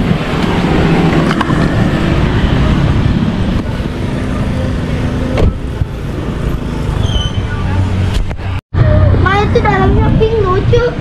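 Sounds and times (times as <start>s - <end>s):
street traffic engines: 0.0s - 11.0s.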